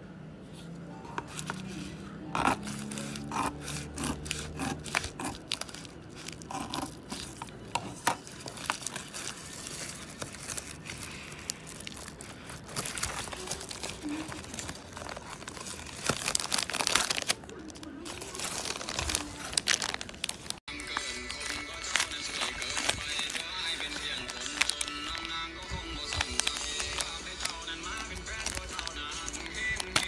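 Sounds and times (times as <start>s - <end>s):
plastic crinkling: 1.2s - 30.0s.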